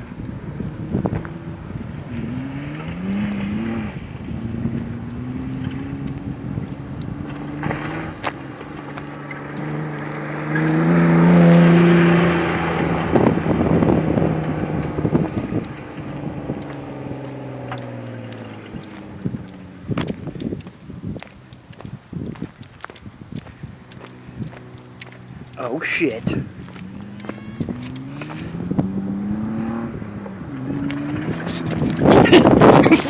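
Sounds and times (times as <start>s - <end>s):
suv engine revving: 0.0s - 33.0s.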